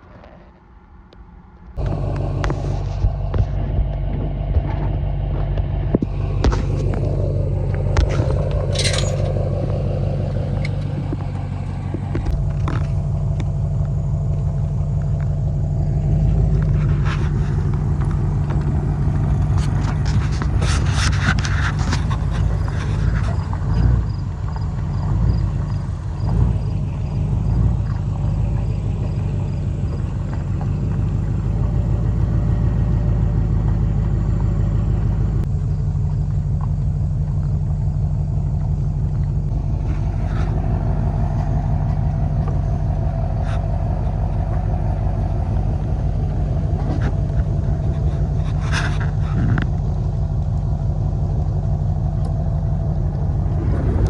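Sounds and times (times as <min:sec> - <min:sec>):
road rumble: 0:00.0 - 0:54.0
vehicle engine drone: 0:00.0 - 0:54.0.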